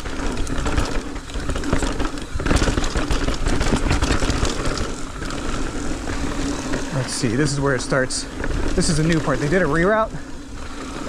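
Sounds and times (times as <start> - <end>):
bike chain and frame rattling: 0.0 - 11.0
tyres rolling over dirt and rocks: 0.0 - 11.0
wind rumbling on microphone: 0.0 - 11.0.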